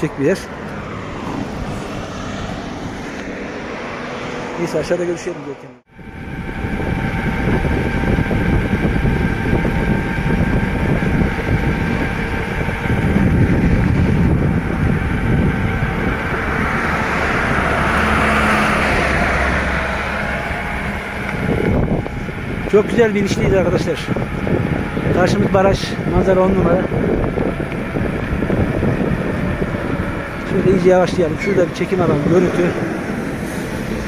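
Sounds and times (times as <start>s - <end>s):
wind buffeting microphone: 0.0s - 4.6s, 5.9s - 34.0s
truck engine passing: 0.0s - 34.0s.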